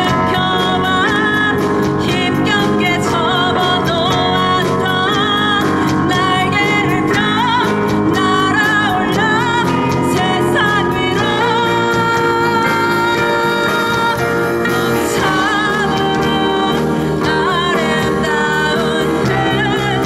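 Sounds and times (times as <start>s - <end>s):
drums: 0.0s - 20.0s
electric guitars: 0.0s - 20.0s
keyboard: 0.0s - 20.0s
woman singing: 0.0s - 20.0s.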